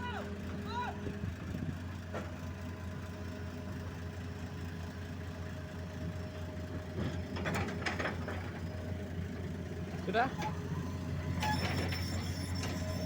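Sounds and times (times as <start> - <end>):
diesel engine idling: 0.0 - 11.6.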